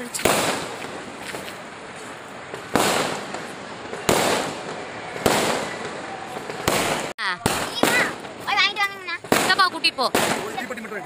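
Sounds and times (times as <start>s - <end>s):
fireworks bangs with echoing rumble: 0.0s - 11.0s.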